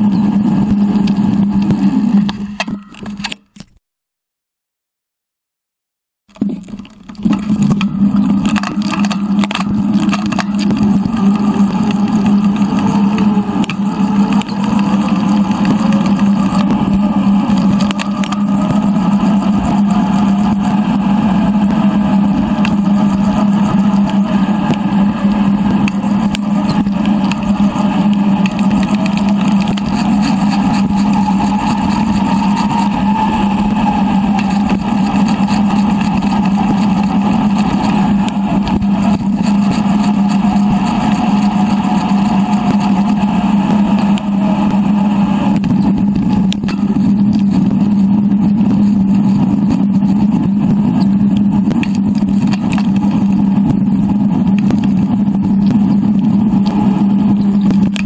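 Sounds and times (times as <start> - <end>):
wind noise: 0.0 - 3.4, 6.3 - 58.0
bicycle tyre noise: 0.0 - 3.8, 6.3 - 58.0.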